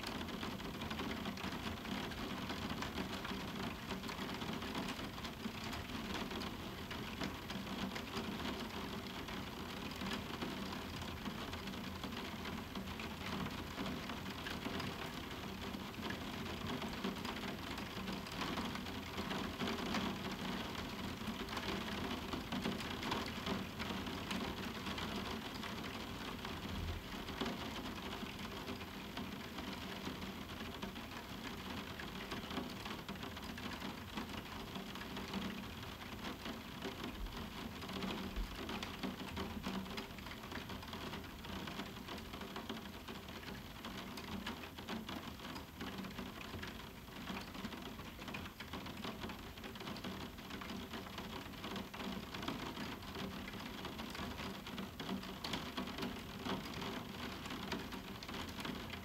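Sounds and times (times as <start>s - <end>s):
rain on a window: 0.0s - 59.0s.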